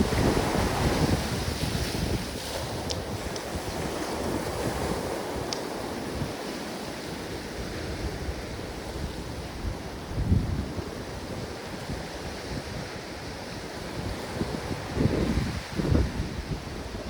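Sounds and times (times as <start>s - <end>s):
ocean surf washing ashore: 0.0s - 17.0s
wind buffeting microphone: 0.0s - 17.0s.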